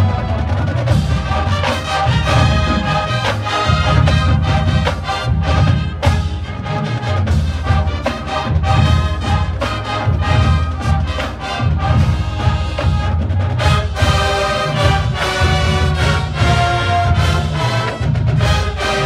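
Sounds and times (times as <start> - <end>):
marching band brass: 0.0 - 19.0
steady drum beat: 0.0 - 19.0.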